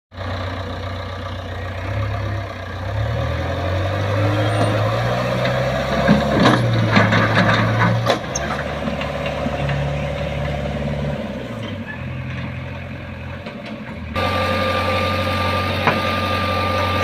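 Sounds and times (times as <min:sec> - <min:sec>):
diesel engine running: 0:00.1 - 0:17.0.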